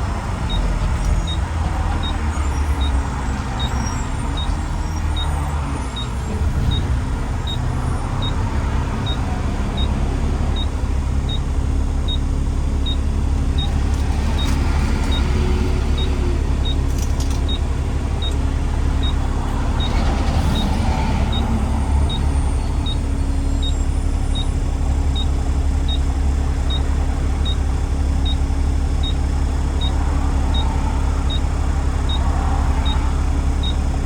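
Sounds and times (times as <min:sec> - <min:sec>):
road noise: 0:00.0 - 0:34.0
truck engine droning: 0:00.0 - 0:34.0.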